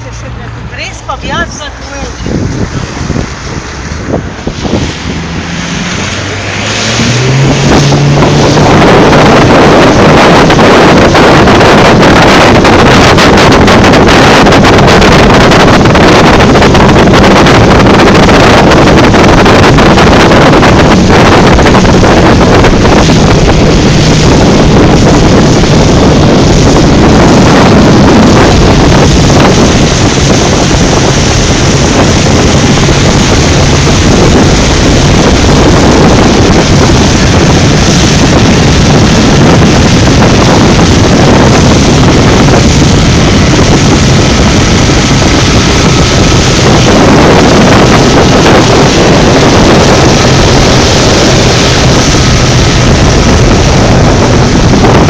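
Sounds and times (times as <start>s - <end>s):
outboard motor drone: 0.0s - 55.0s
water rushing along hull: 0.0s - 55.0s
wind buffeting microphone: 0.0s - 55.0s.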